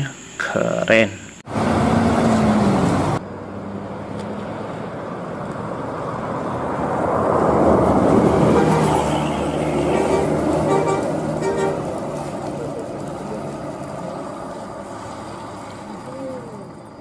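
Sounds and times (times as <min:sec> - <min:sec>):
bus diesel engine running: 0:01.4 - 0:17.0.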